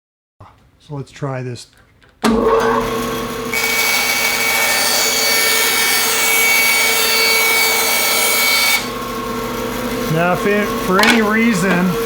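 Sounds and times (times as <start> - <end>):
bandsaw cutting wood: 2.2 - 12.0
bandsaw motor hum: 2.2 - 12.0.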